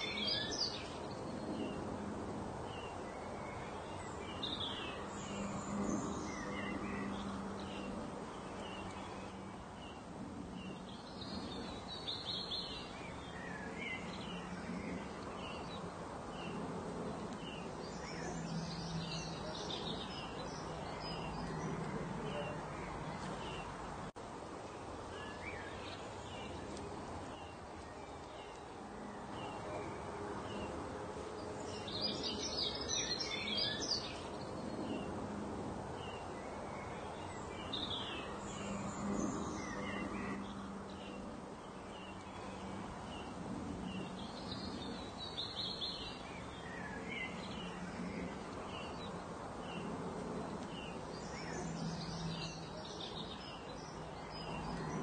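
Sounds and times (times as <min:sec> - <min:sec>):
fuller birdsong: 0:00.0 - 0:55.0.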